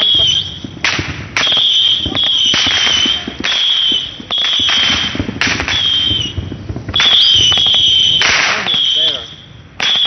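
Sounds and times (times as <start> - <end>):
firework cracks: 0.0 - 10.0
whistling fireworks: 0.0 - 10.0.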